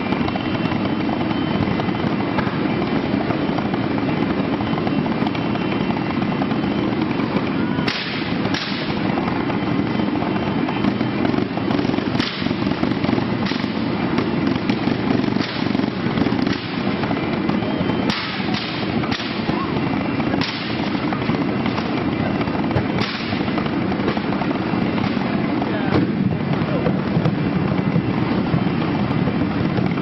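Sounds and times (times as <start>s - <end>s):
loud background din: 0.0s - 30.0s.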